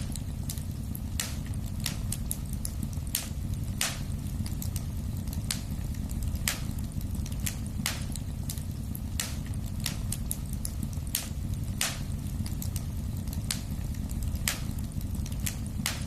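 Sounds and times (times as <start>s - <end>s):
fire crackles and pops: 0.0s - 16.0s
flames rumbling: 0.0s - 16.0s.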